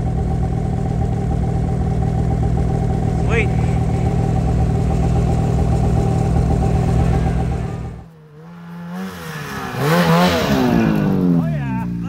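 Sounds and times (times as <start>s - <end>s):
quieter snowmobile engine revving: 0.0s - 12.0s
snowmobile engine running: 0.0s - 12.0s.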